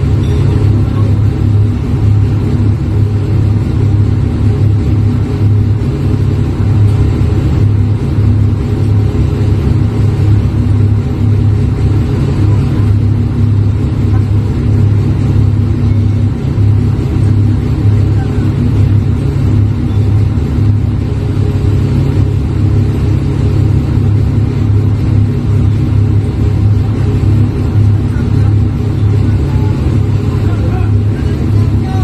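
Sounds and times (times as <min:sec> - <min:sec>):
forklift engine idling: 0:00.0 - 0:32.0.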